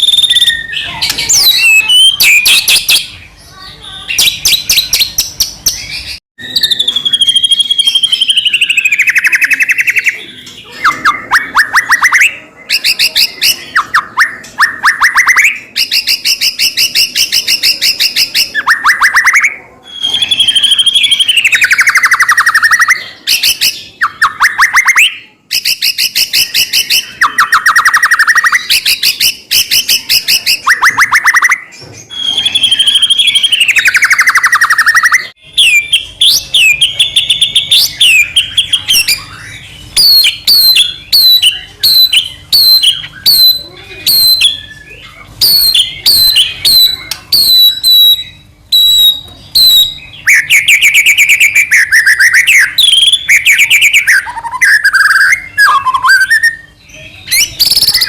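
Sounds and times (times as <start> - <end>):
songbird singing loudly: 4.2 - 58.0.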